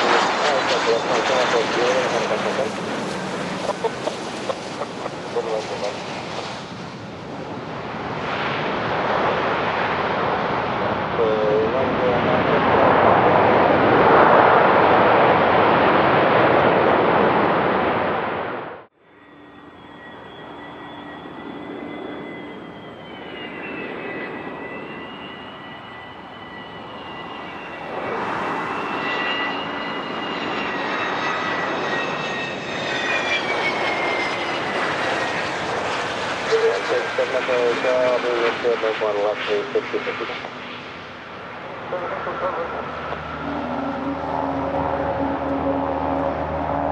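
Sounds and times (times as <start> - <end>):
jet engine noise: 0.0 - 46.9
turbofan whine: 0.0 - 46.9.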